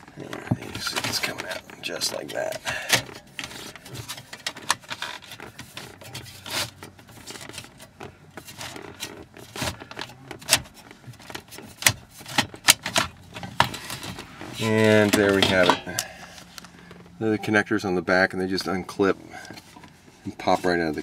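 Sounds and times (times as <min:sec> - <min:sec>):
metal scraping against plastic: 0:00.1 - 0:17.2.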